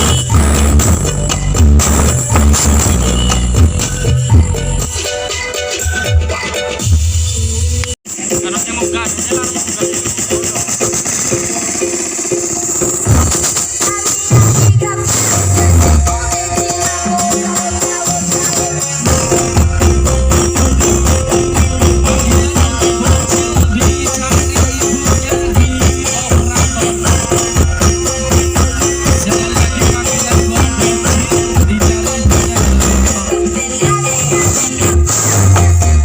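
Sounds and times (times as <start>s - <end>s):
dance music with heavy bass: 0.0s - 6.8s, 8.1s - 36.0s.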